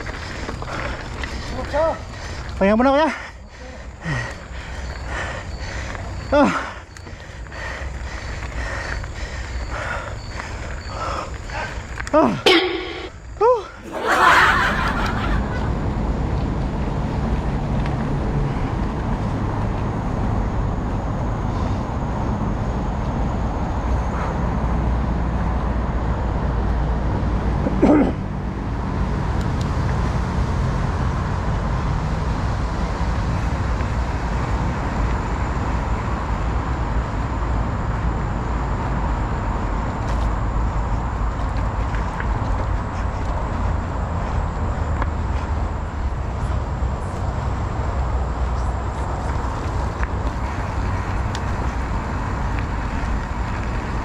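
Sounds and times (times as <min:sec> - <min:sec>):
outdoor road noise: 0:00.0 - 0:54.0.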